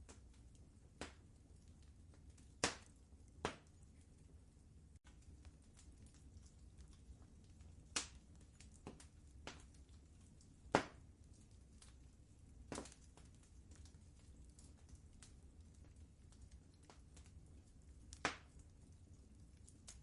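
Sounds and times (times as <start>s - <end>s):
low fire rumble: 0.0s - 20.0s
wood fire popping and snapping: 0.0s - 20.0s.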